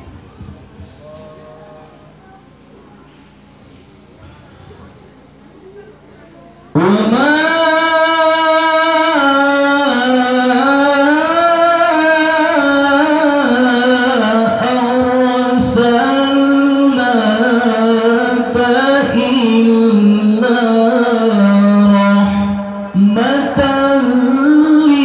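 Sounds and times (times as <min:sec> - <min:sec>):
melodic recitation into microphone: 0:00.0 - 0:25.0.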